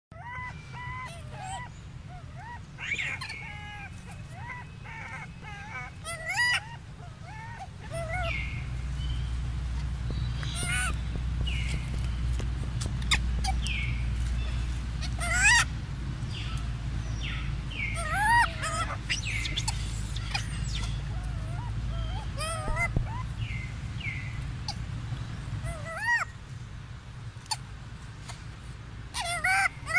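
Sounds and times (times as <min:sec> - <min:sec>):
macaques coo calls: 0:00.1 - 0:12.1, 0:12.8 - 0:26.4, 0:29.1 - 0:29.9.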